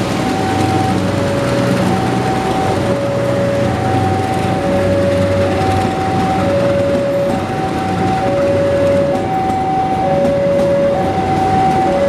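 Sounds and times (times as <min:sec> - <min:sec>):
locomotive engine drone: 0:00.0 - 0:12.0
two-tone warning alarm: 0:00.0 - 0:12.0.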